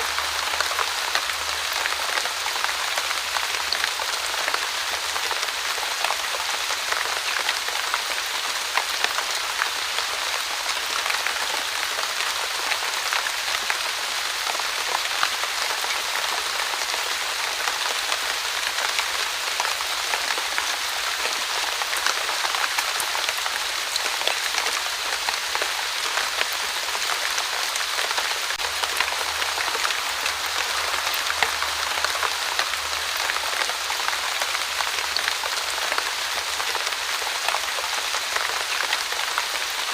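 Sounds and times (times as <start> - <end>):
fine rain falling: 0.0 - 39.9.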